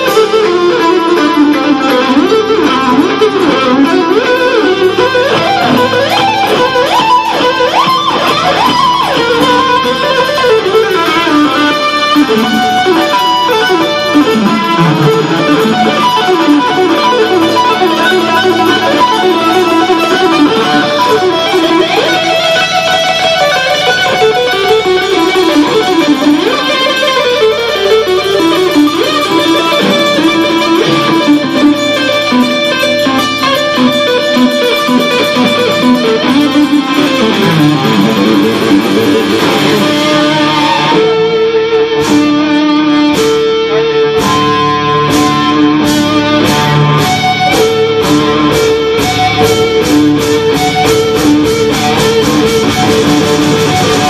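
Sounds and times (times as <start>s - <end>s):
electric guitar solo: 0.0s - 54.0s.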